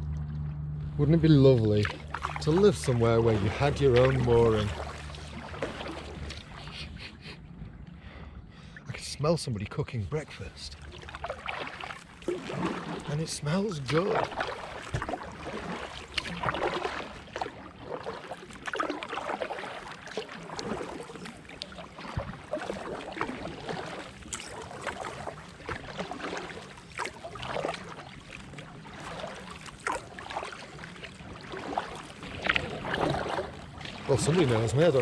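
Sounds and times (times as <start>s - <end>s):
water trickling off paddle: 0.0s - 7.3s, 10.1s - 35.0s
paddle splashing in water: 0.0s - 7.4s, 10.2s - 35.0s.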